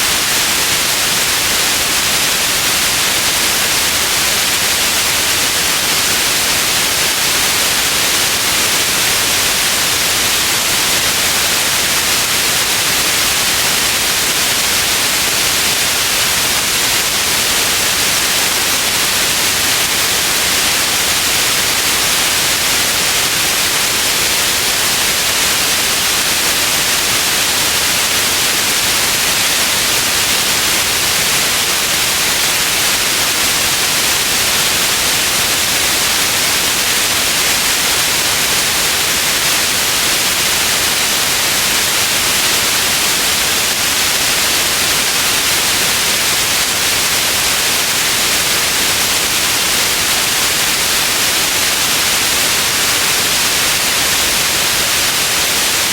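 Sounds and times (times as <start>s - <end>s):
steady white noise: 0.0s - 55.9s.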